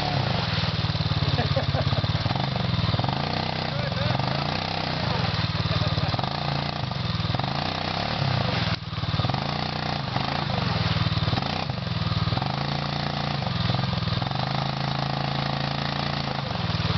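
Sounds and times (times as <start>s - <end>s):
quad engine revving: 0.0s - 16.9s.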